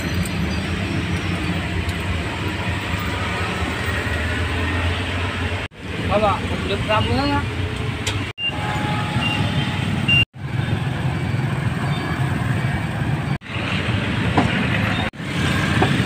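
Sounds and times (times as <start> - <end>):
passing vehicles rumbling: 0.0 - 16.0.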